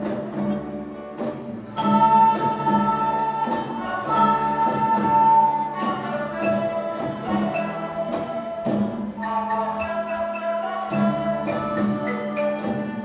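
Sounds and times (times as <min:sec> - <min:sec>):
children's orchestra playing a lullaby: 0:00.0 - 0:13.0.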